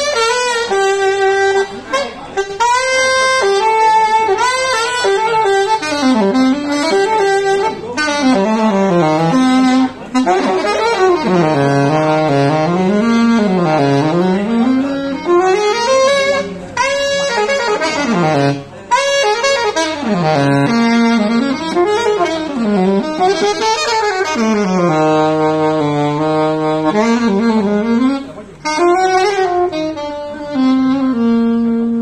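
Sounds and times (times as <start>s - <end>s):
alto saxophone fast phrases: 0.0s - 32.0s.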